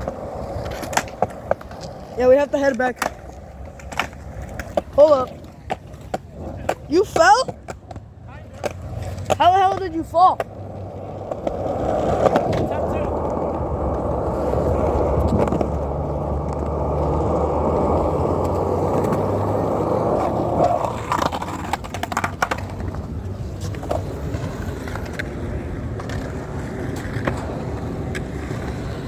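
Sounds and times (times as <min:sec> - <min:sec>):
skateboard clacks: 0:00.0 - 0:29.0
skateboard wheels rolling on concrete: 0:00.0 - 0:29.0.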